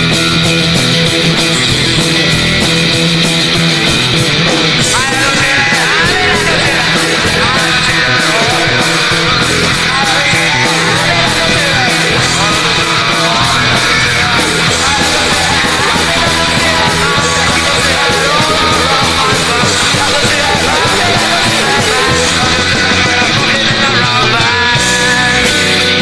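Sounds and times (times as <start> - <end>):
punk rock band music: 0.0 - 26.0.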